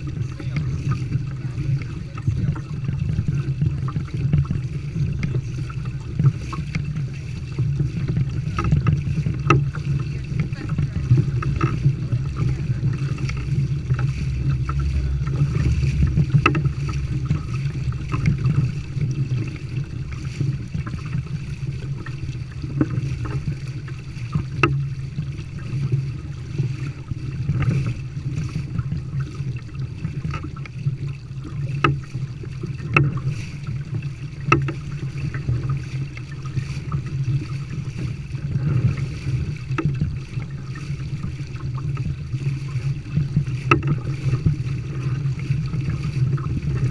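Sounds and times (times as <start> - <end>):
small waves slapping hull: 0.0 - 46.9
water rushing along kayak hull: 0.0 - 46.9
wind rumbling on microphone: 0.0 - 46.9.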